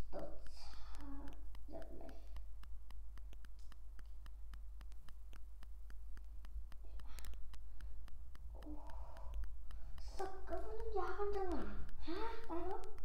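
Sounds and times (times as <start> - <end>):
fast ticking: 0.0 - 13.0.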